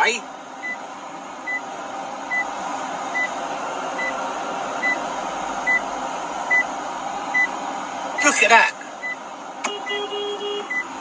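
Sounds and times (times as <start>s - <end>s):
car cabin running noise: 0.0s - 11.0s.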